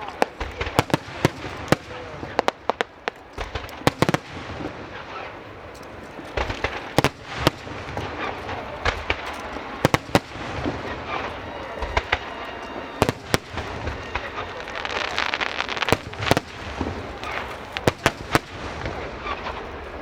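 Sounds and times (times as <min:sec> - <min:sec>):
fireworks crackle: 0:00.0 - 0:20.0
fireworks shells bursting: 0:00.0 - 0:20.0.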